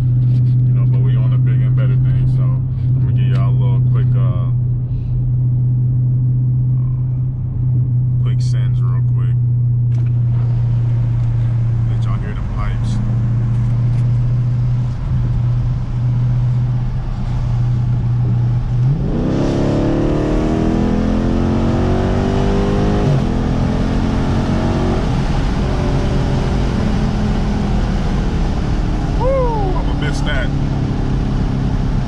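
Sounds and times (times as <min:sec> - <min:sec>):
car engine exhaust revving: 0:00.0 - 0:32.0.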